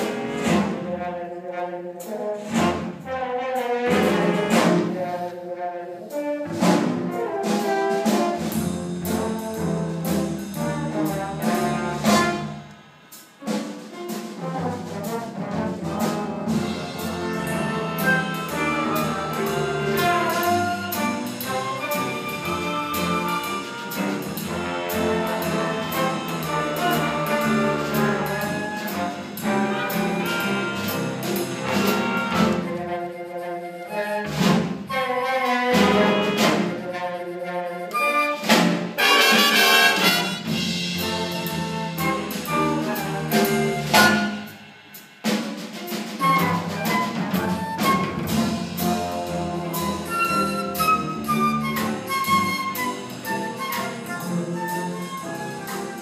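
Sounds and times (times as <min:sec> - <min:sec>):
jazz big band playing: 0:00.0 - 0:56.0.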